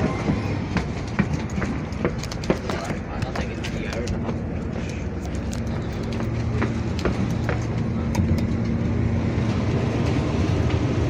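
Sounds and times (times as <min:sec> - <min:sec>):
train interior drone: 0:00.0 - 0:11.0.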